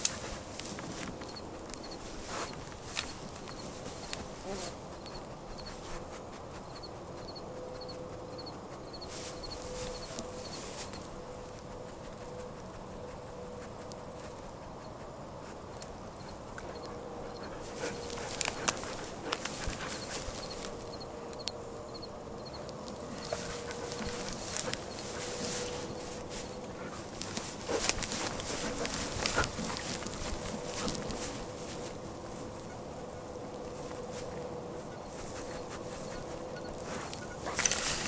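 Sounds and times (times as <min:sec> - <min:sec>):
dry brush scraping and crackling: 0:00.0 - 0:06.7, 0:09.0 - 0:14.5, 0:16.6 - 0:21.0, 0:22.6 - 0:38.0
faint steady hum: 0:00.0 - 0:38.0.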